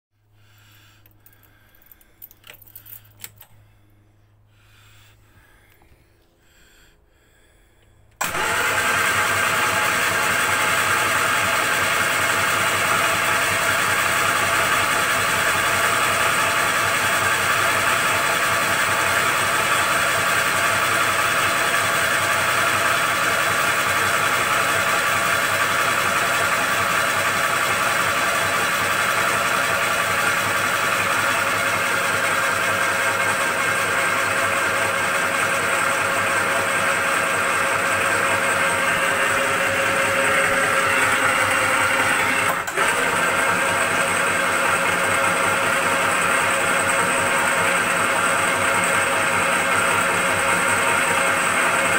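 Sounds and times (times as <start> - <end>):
starter motor cranking: 8.1 - 51.9.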